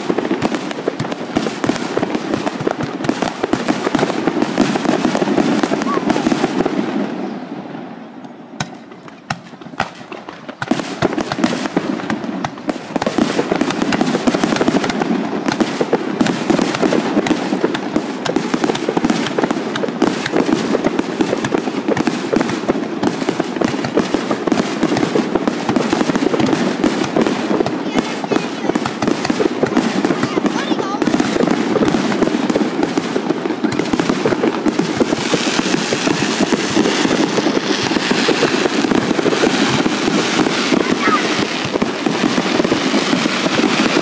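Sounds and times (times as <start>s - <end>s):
fireworks bursting and crackling: 0.0s - 44.0s
scattered firework bangs: 0.0s - 44.0s.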